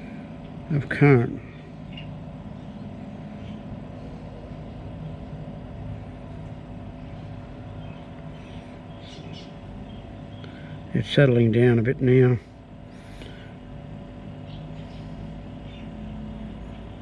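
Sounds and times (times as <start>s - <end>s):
fridge compressor humming: 0.0s - 17.0s.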